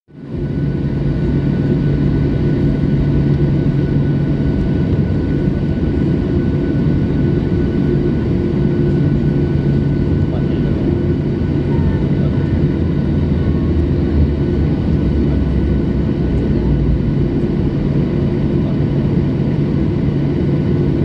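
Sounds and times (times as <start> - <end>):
jet engines rumbling in cabin: 0.1 - 21.0.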